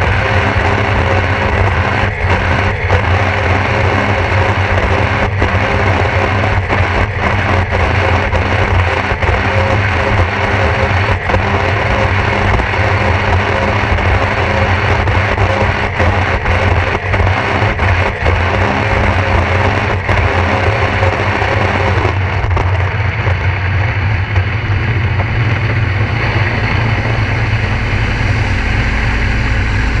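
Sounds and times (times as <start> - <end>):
jet ski engine at full throttle: 0.0 - 30.0.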